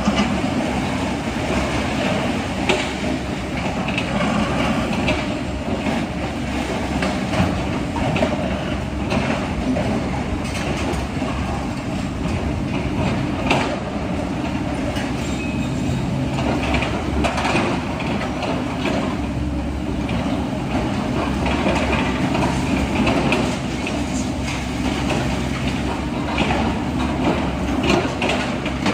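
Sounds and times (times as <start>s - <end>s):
excavator diesel engine under load: 0.0s - 28.9s.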